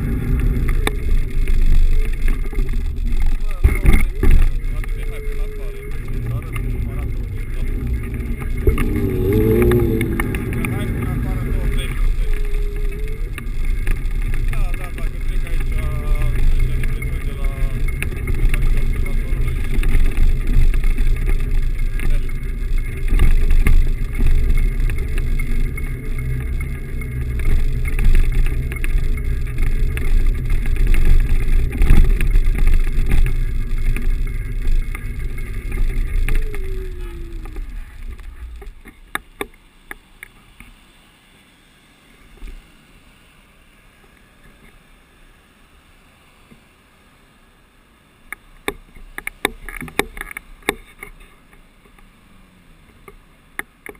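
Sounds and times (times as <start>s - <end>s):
electric scooter motor whine: 0.0s - 53.9s
road rumble: 0.0s - 53.9s.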